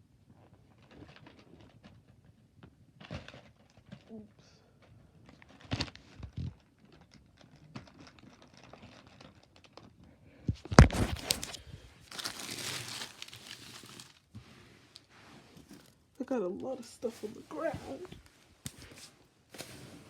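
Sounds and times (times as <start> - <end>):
gift bag crinkling and rustling: 0.4 - 16.1, 17.0 - 20.0.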